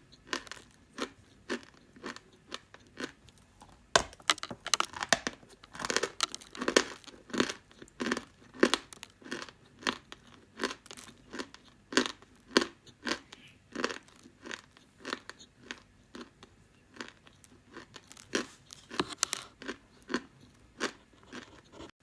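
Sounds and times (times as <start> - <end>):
person chewing crunchy clay: 0.0 - 21.9.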